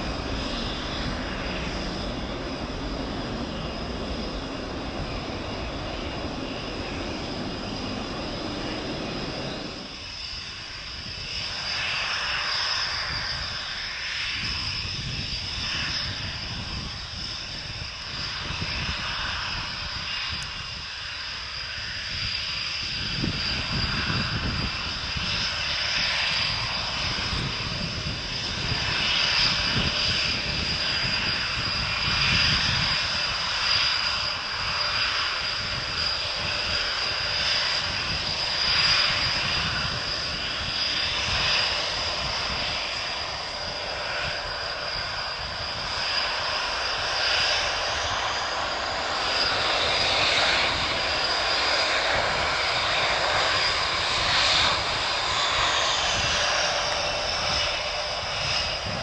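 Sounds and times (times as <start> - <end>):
jet engines whining: 0.0 - 59.0
jet noise hiss: 0.0 - 59.0.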